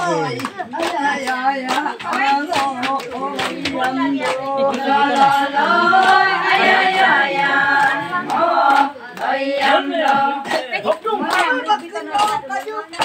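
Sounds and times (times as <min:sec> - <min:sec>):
hand claps: 0:00.0 - 0:13.0
women singing folk song: 0:00.0 - 0:13.0.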